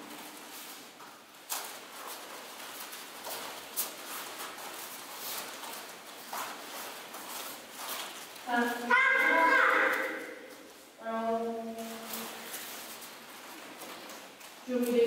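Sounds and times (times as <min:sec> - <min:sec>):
light footsteps and taps: 0:00.0 - 0:11.0, 0:11.7 - 0:15.0
steady background hiss: 0:00.0 - 0:15.0.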